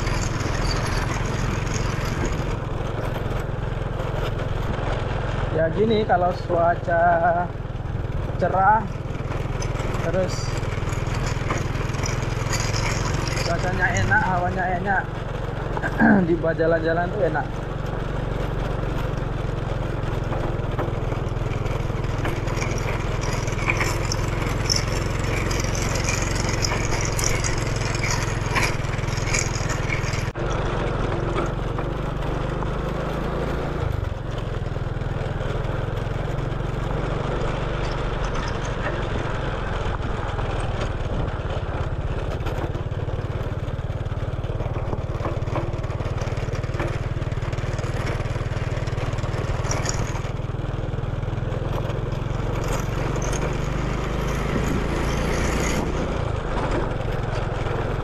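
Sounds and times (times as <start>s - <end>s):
crackles and rattles: 0.0s - 58.0s
motorcycle engine running: 0.0s - 58.0s.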